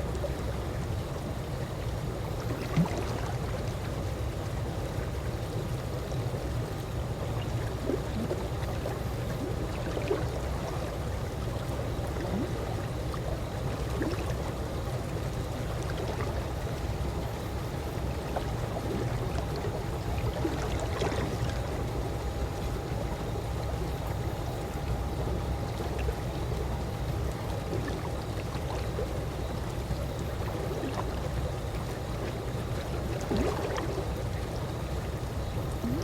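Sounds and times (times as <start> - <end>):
pool water lapping and gurgling: 0.0 - 36.0
water trickles and splashes: 0.0 - 36.0.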